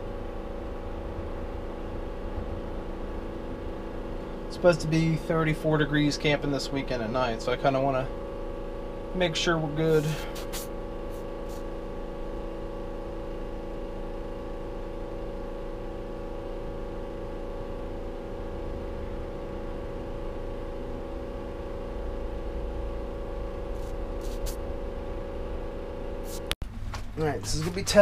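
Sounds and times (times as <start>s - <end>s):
furnace blower motor humming: 0.0s - 28.0s.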